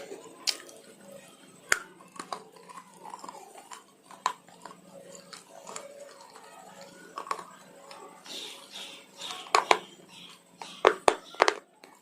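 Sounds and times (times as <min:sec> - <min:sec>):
chocolate crunching and chewing: 0:00.0 - 0:12.0.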